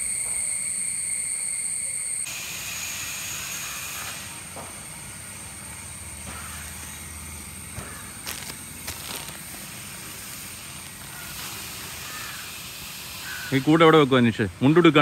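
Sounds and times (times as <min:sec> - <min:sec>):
shrill insect chorus: 0:00.0 - 0:15.0
steady hiss with high tone: 0:00.0 - 0:15.0.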